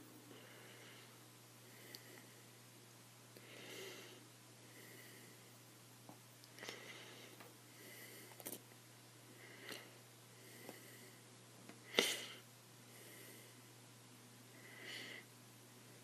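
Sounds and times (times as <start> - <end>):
faint breathing: 0.0 - 2.6, 3.4 - 5.6, 6.5 - 8.6, 9.2 - 13.8, 14.5 - 16.0
steady low hum: 0.0 - 16.0.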